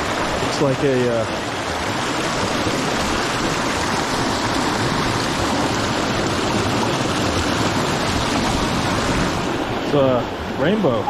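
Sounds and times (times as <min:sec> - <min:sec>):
fast river current rushing: 0:00.0 - 0:11.0.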